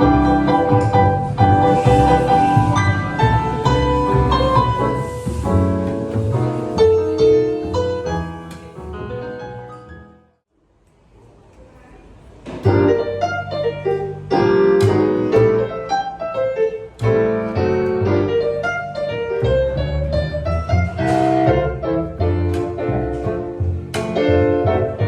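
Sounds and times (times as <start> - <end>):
piano music: 0.0 - 10.4, 12.6 - 25.0.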